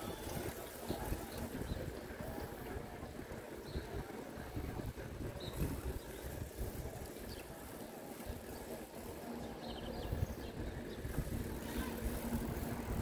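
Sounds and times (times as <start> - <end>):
wind buffeting microphone: 0.0 - 8.8, 9.4 - 13.0
street ambience: 0.0 - 13.0.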